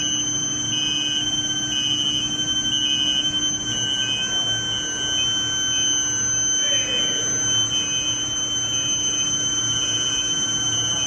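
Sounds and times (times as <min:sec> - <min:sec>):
induction furnace high-pitched whine: 0:00.0 - 0:11.0.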